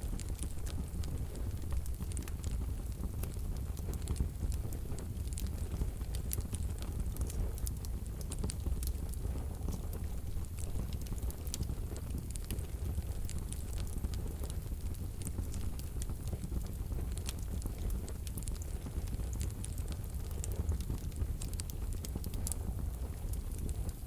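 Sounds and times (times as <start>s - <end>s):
logs crackling and popping: 0.0s - 24.0s
wood fire rumbling in a stove: 0.0s - 24.0s.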